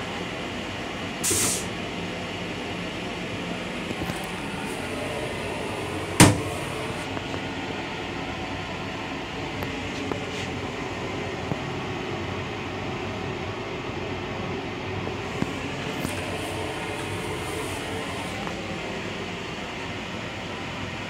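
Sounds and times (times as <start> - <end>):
train running noise: 0.0 - 11.7, 14.3 - 21.0.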